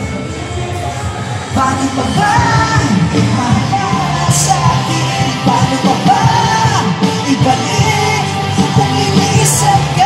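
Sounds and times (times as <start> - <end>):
live rock band: 0.0 - 10.0.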